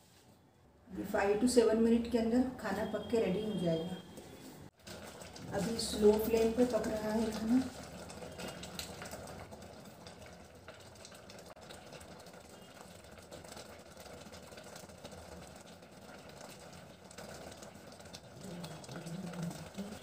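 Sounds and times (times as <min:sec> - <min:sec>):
pot simmering with light hiss: 0:00.9 - 0:20.0.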